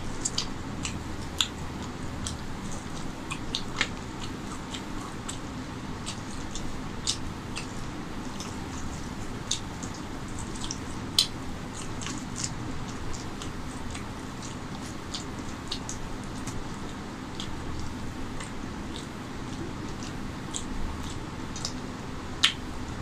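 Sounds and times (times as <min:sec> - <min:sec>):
wet eating sounds: 0:00.0 - 0:23.0.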